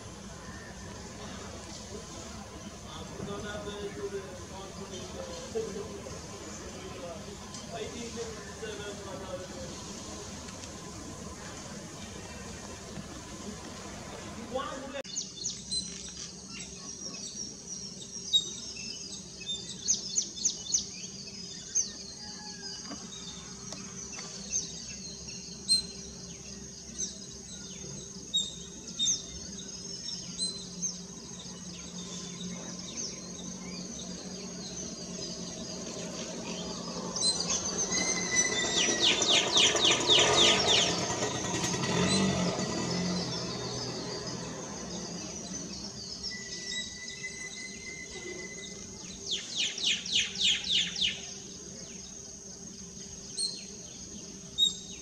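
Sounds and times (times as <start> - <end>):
birds chattering: 0.0 - 55.0
birds chirping: 0.0 - 55.0
low background hum: 0.0 - 55.0.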